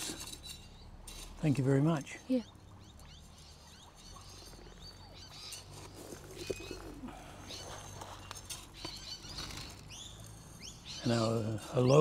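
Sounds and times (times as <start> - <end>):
birds chirping and whistling: 0.0 - 1.7, 2.3 - 12.0.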